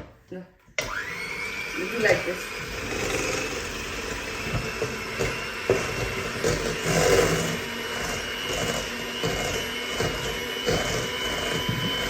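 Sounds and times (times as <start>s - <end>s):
electric hand mixer whipping: 0.8s - 12.0s.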